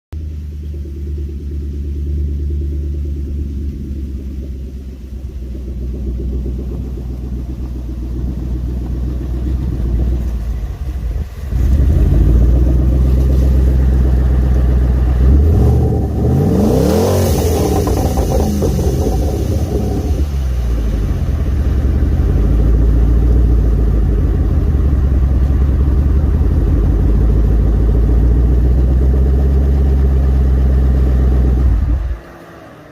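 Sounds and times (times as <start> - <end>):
car engine rumbling and revving: 0.1 - 32.9.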